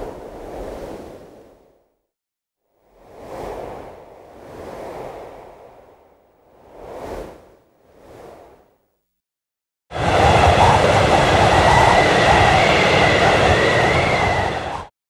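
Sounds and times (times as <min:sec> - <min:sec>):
strong wind whistling: 0:00.0 - 0:01.8, 0:02.8 - 0:08.7, 0:09.9 - 0:14.9
soft wind gust: 0:00.0 - 0:02.0, 0:02.7 - 0:09.0, 0:10.0 - 0:14.9.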